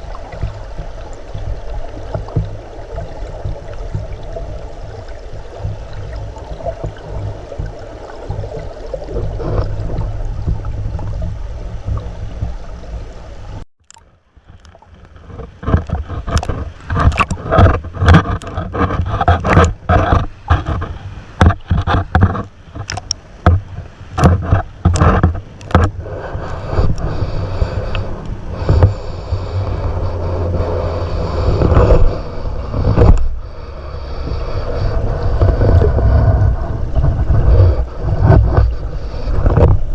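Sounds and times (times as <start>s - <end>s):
muffled underwater river rush: 0.0s - 39.9s
sharp knocks and scrapes: 0.4s - 4.5s, 5.6s - 12.6s, 14.4s - 33.4s, 34.0s - 39.9s.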